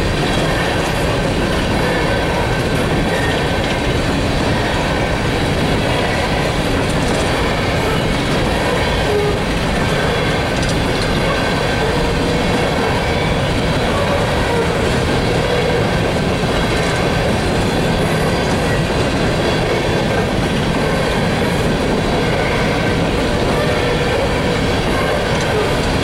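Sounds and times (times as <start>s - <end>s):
train wheels rumbling and rattling: 0.0s - 26.0s.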